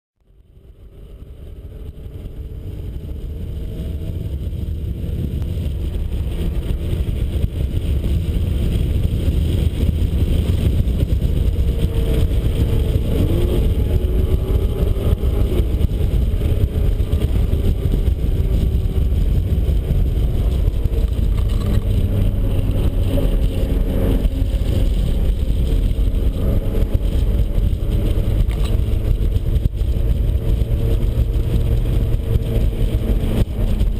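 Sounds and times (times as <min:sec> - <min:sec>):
car engine low rumble: 0:00.2 - 0:33.9.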